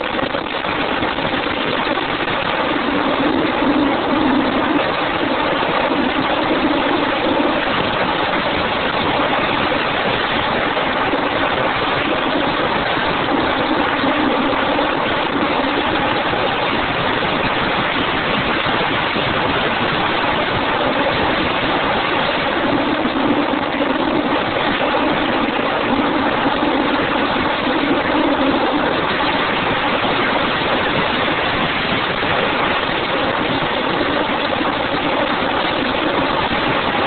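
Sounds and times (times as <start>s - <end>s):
road and wind noise: 0.0s - 37.0s.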